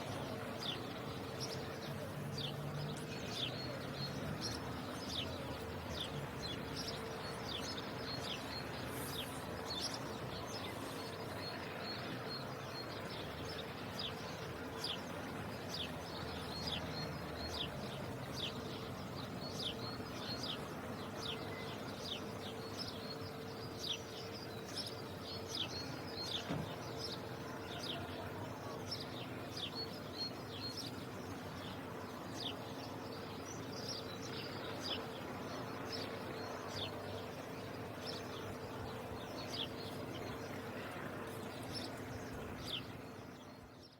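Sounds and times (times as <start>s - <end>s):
sparrows chirping: 0.0s - 43.9s
steady background hum: 0.0s - 43.9s.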